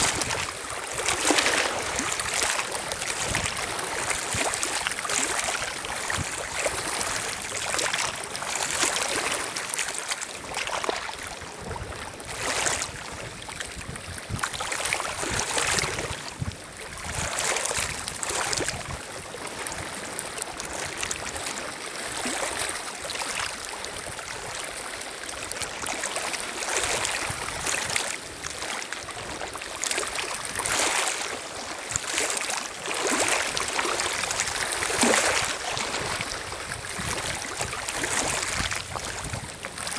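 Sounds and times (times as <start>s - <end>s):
waves lapping on pebble shore: 0.0s - 39.9s.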